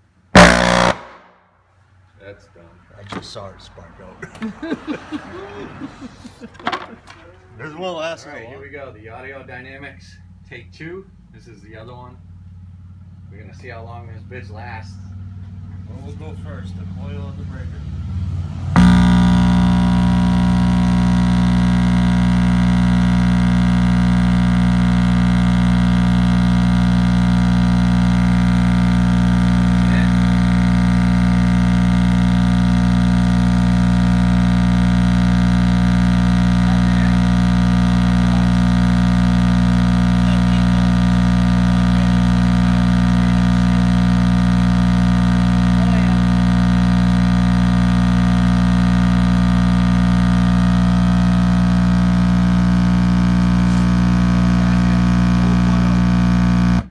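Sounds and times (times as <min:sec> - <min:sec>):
subwoofer buzzing hum: 0:00.0 - 0:56.9.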